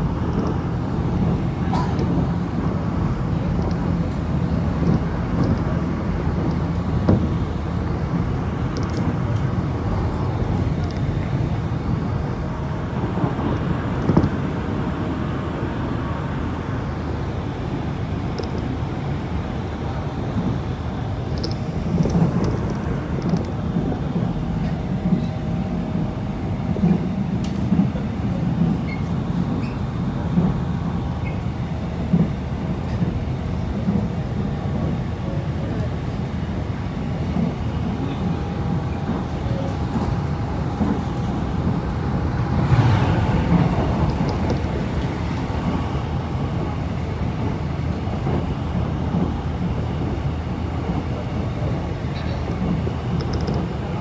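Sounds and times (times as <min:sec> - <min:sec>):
train rumble from inside carriage: 0:00.0 - 0:54.0.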